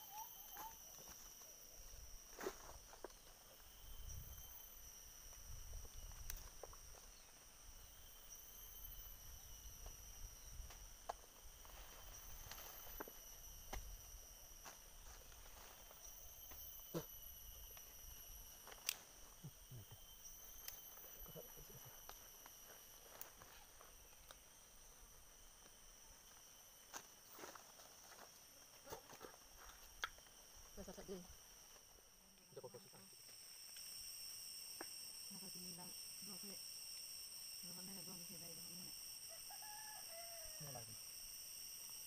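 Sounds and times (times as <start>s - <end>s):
high-pitched insect drone: 0.0s - 42.0s.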